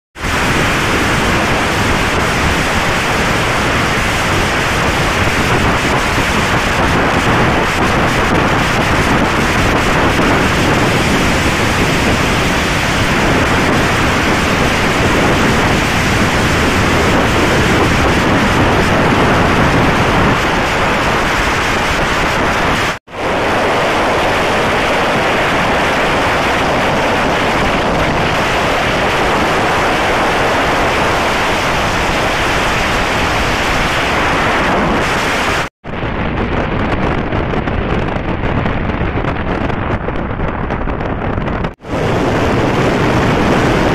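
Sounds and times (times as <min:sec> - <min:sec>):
wind rushing over microphone: 0:00.2 - 0:43.9.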